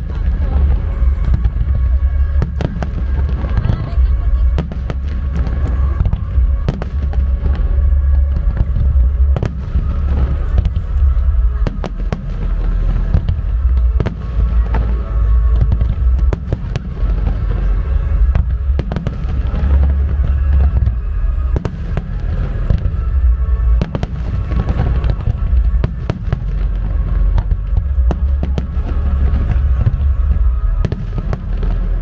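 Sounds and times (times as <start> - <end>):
deep booming: 0.0 - 32.0
fireworks bangs: 0.0 - 32.0.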